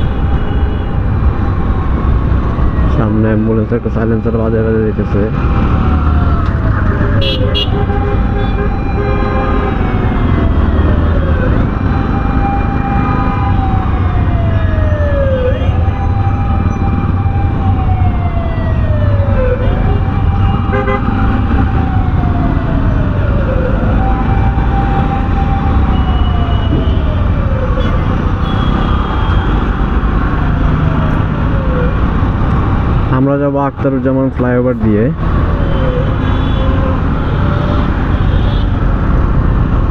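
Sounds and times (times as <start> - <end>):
ambulance siren wailing: 0.0 - 33.4, 34.0 - 39.9
traffic: 0.0 - 39.9.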